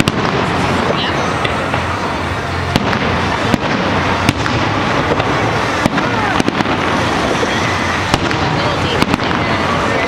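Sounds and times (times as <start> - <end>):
firework shells bursting: 0.0 - 10.0.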